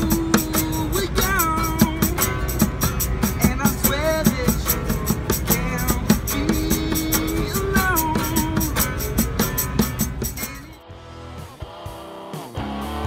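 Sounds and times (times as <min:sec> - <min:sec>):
hand percussion thumping: 0:00.0 - 0:10.8
man singing: 0:00.0 - 0:10.8
tambourine jingling: 0:00.0 - 0:10.8
acoustic guitar strumming: 0:00.0 - 0:13.0.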